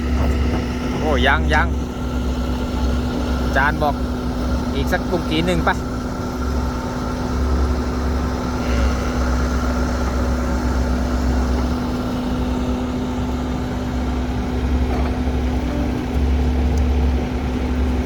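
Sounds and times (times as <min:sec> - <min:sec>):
heavy diesel engines rumbling: 0:00.0 - 0:18.0.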